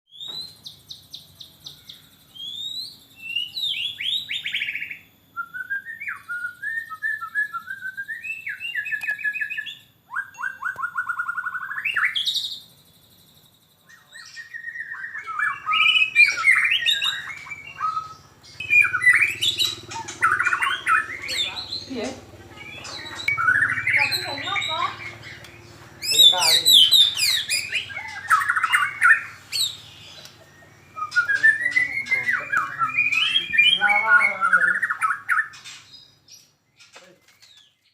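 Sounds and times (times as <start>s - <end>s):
bird singing trills and whistles: 0.1s - 37.9s.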